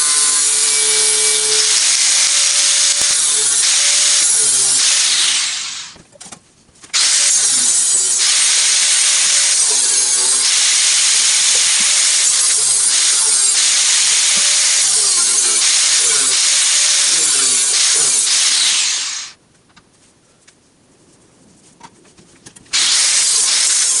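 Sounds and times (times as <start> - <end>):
angle grinder high hiss: 0.0 - 6.0, 7.0 - 19.4, 22.8 - 24.0.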